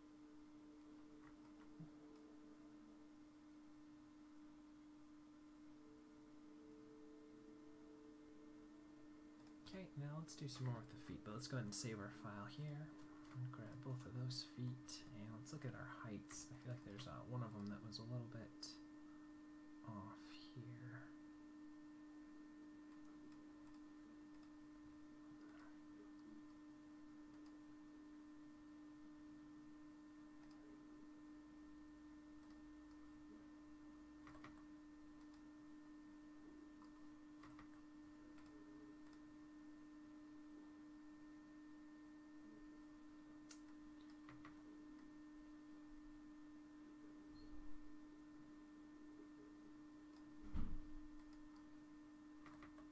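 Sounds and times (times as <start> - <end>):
faint electrical hum: 0.0 - 52.9.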